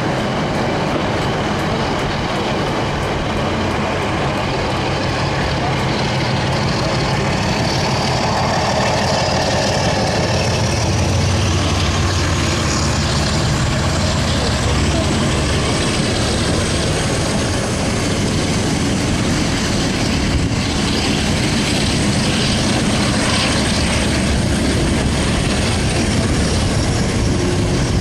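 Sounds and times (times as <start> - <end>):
diesel locomotive engine pulling: 0.0 - 28.0.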